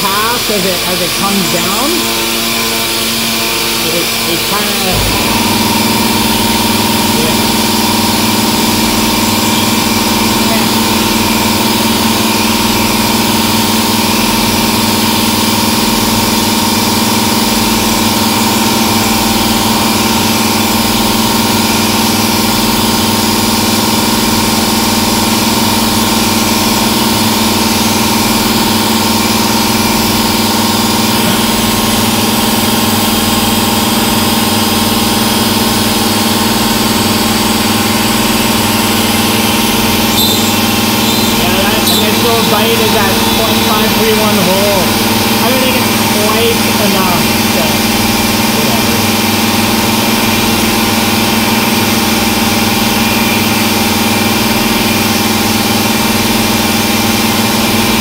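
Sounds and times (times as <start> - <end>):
milling machine cutting metal: 0.0 - 58.0.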